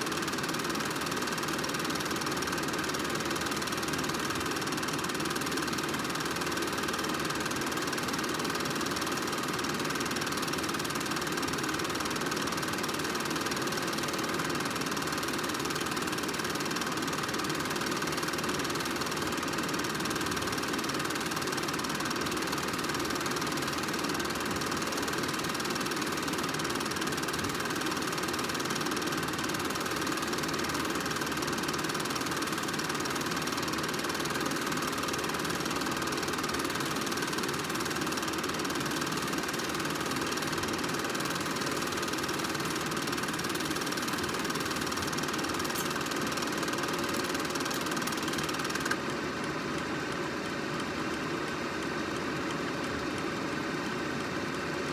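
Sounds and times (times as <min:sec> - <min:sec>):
film projector clattering: 0:00.0 - 0:54.9.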